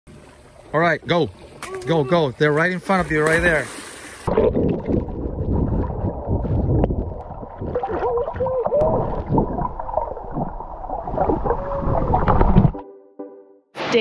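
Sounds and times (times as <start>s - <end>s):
underwater rushing water: 1.3s - 12.8s.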